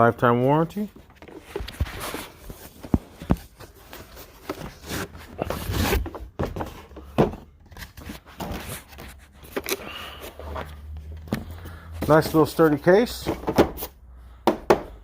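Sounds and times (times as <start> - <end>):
plastic case and packaging rustling: 0.5 - 13.8.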